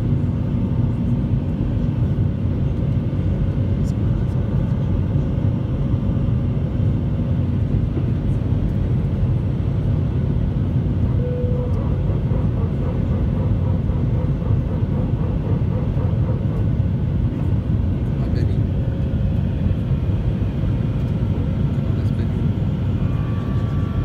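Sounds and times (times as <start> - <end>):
airflow along fuselage: 0.0 - 24.0
airplane engines roaring: 0.0 - 24.0.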